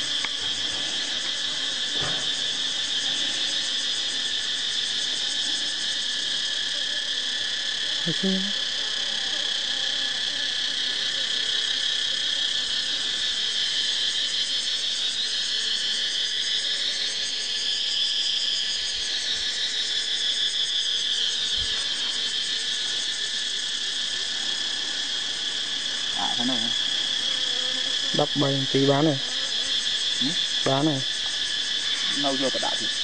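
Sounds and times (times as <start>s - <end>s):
shrill insect chorus: 0.0s - 33.0s.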